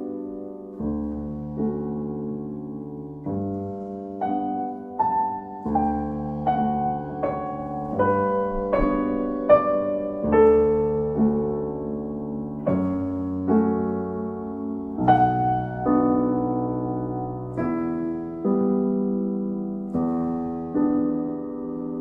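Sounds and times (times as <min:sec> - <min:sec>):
slow calm piano piece: 0:00.0 - 0:22.0.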